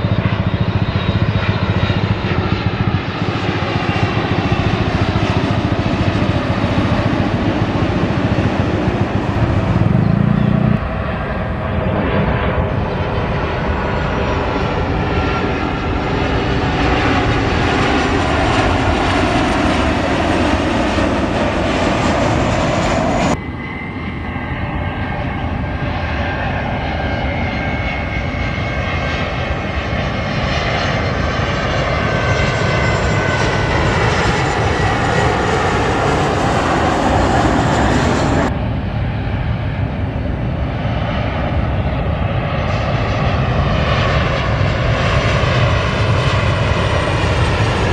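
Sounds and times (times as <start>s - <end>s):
jet airliner passing overhead: 0.0s - 47.9s.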